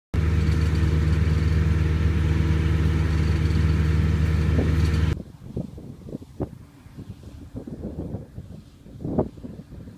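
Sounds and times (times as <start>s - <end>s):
combine harvester engine running: 0.2s - 8.7s.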